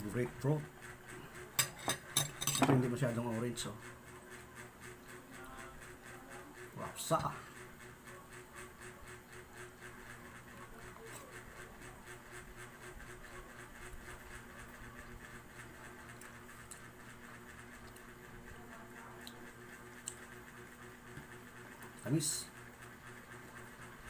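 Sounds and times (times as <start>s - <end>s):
low hum with flutter: 0.0s - 24.0s.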